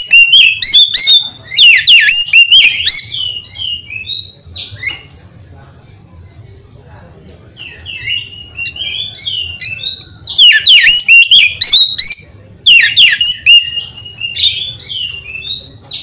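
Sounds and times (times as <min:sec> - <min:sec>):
bird singing whistled warbles: 0:00.0 - 0:05.1, 0:07.6 - 0:16.0.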